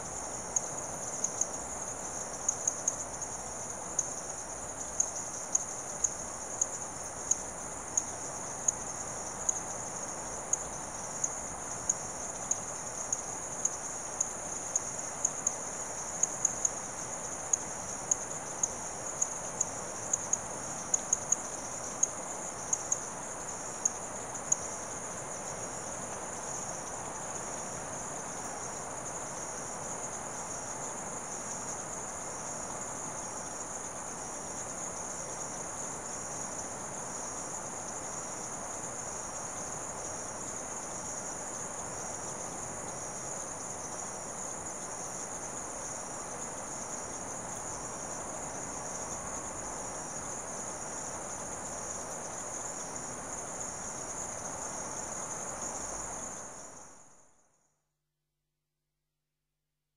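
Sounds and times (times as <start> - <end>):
insects trilling: 0.0 - 57.1.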